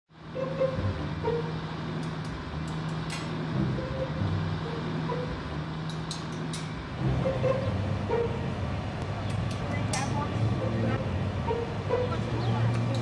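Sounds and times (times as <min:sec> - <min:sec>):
road traffic noise: 0:00.1 - 0:13.0
vehicle engine running: 0:00.1 - 0:13.0.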